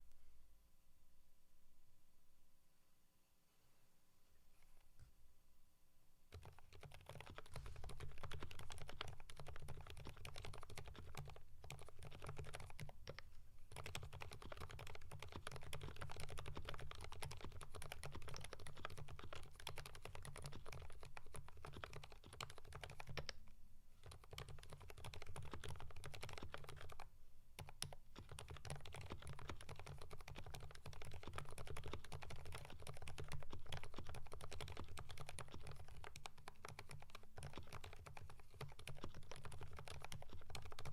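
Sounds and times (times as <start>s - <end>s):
soft mechanical keyboard typing: 6.3s - 40.9s.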